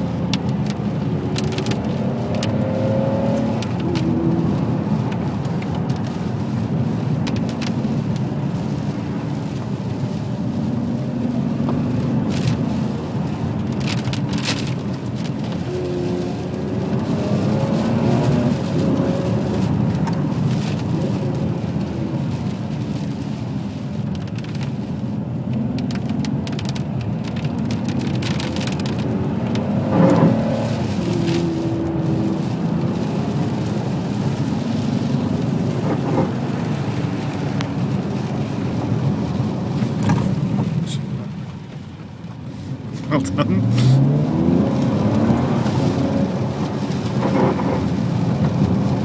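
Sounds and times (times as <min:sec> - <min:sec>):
car engine revving while driving: 0:00.0 - 0:49.0
tyres hissing on wet road: 0:00.0 - 0:49.0.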